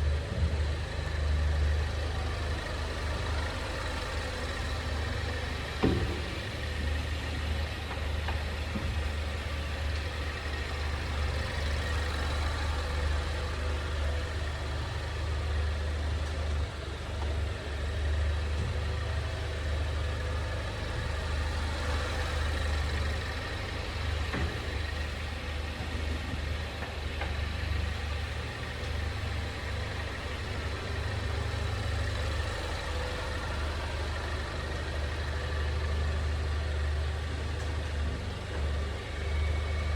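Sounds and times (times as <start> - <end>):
car low rumble: 0.0 - 39.9.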